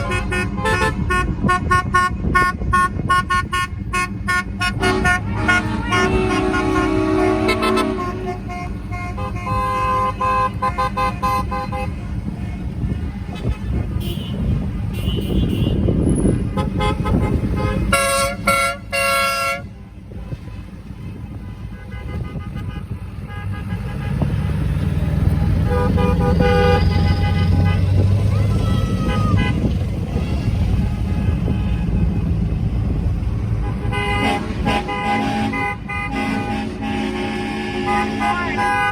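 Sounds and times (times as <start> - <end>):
car horns honking: 0.0 - 38.9
low rumble of traffic: 0.0 - 38.9.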